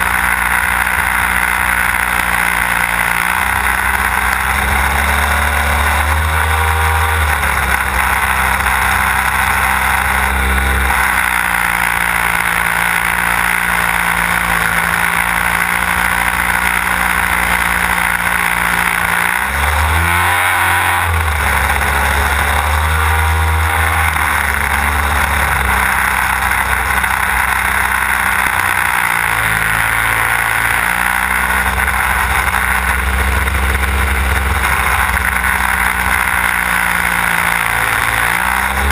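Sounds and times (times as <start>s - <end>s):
model plane engine running: 0.0s - 38.9s.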